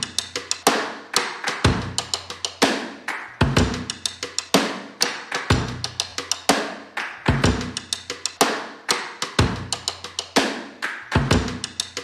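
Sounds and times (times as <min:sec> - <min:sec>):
music with drum-kit beat: 0:00.0 - 0:12.0.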